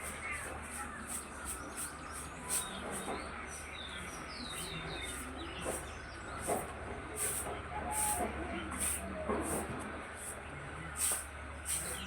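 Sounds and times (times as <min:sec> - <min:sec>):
birds chirping: 0:00.0 - 0:07.4, 0:09.6 - 0:12.0.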